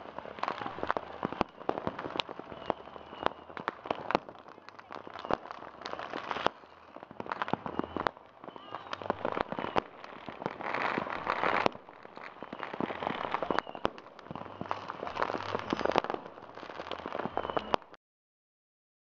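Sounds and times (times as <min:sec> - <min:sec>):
firecracker crackle: 0:00.0 - 0:18.0
fireworks popping and banging: 0:00.0 - 0:18.0.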